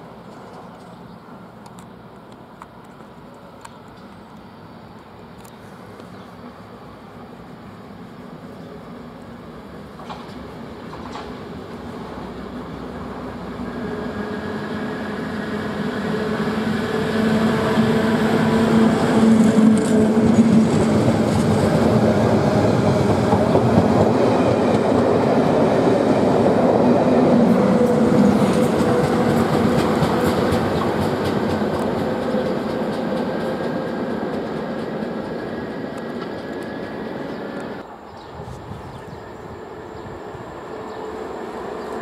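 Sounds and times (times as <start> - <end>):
coaches rumbling and wheel clatter: 0.0 - 42.0
locomotive drone: 0.0 - 42.0.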